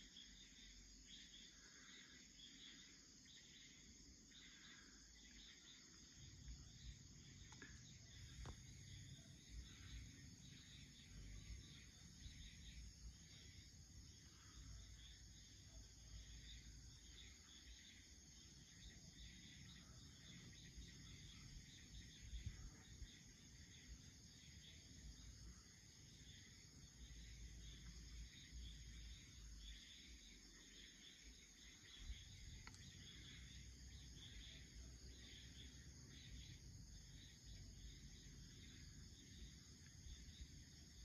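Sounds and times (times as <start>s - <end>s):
crickets chirring: 0.0s - 41.0s.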